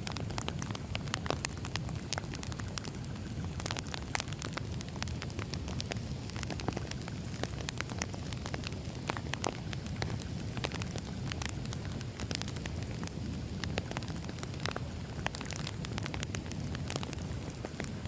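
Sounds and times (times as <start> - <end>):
logs crackling and popping: 0.0 - 18.0
low rumble of fire: 0.0 - 18.0.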